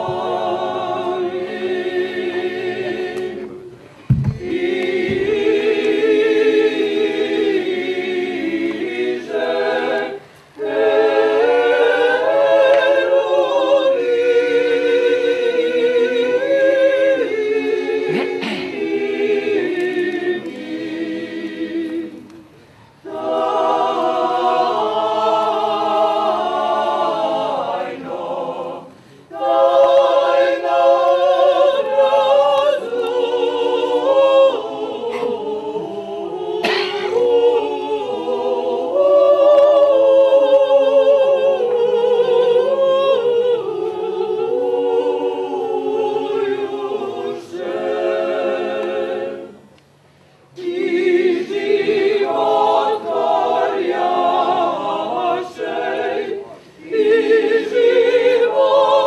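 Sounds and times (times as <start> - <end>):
church choir singing a cappella: 0.0 - 59.0.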